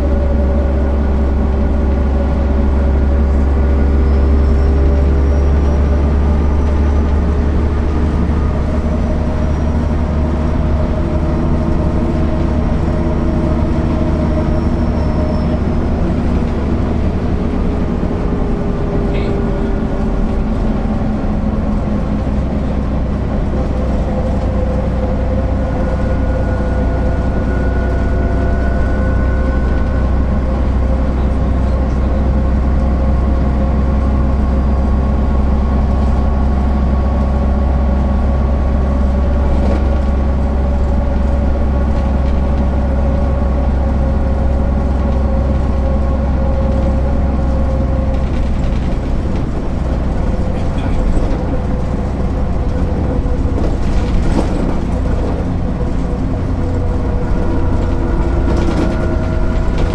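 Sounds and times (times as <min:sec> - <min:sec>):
bus diesel engine humming: 0:00.0 - 0:59.9.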